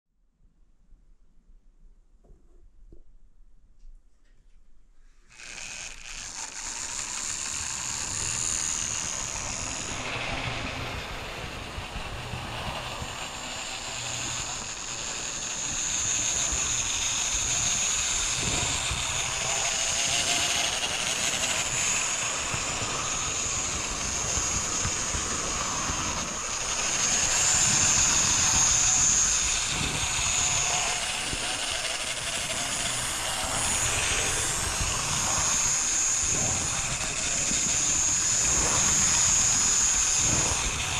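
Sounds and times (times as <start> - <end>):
electric motor whine: 5.2 - 40.9
model train rolling: 5.3 - 40.9.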